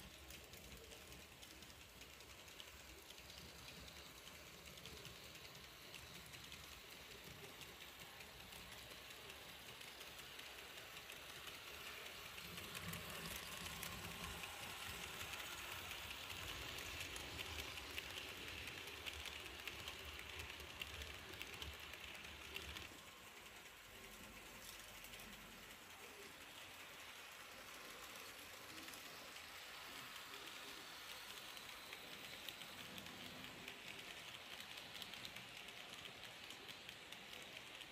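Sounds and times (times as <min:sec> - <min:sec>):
model train wheels rattling on rails: 0:00.0 - 0:37.9.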